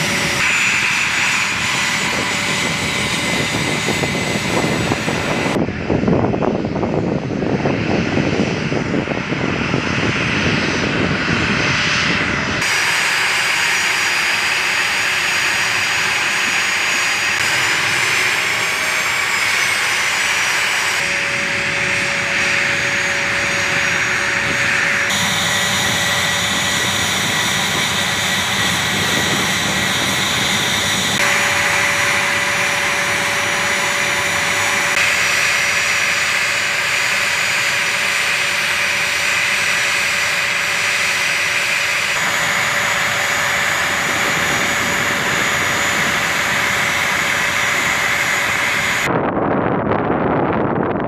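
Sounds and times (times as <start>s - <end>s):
jet engines running: 0.0s - 51.0s.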